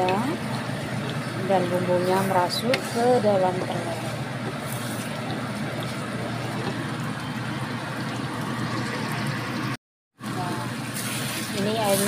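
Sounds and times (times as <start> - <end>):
sauce bubbling and sizzling: 0.2 - 9.8, 10.7 - 12.0.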